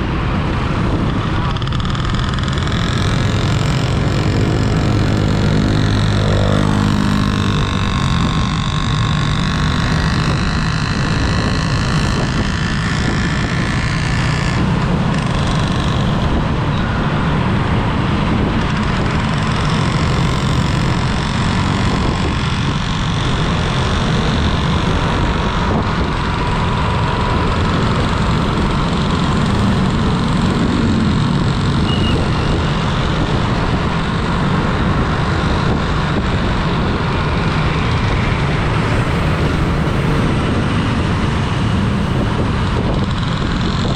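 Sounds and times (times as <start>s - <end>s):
vehicle engine and road noise: 0.0s - 43.9s
high whine: 0.9s - 34.8s, 35.6s - 43.9s.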